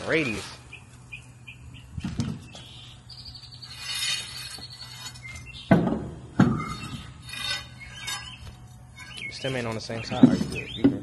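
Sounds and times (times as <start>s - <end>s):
small bird chirping: 0.1s - 5.7s, 6.6s - 11.0s.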